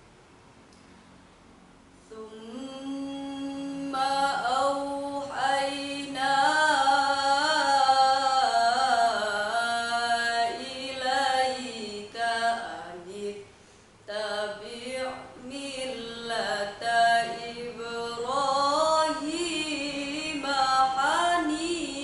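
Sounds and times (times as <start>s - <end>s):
girl reciting melodically: 2.0s - 13.5s, 14.1s - 22.0s.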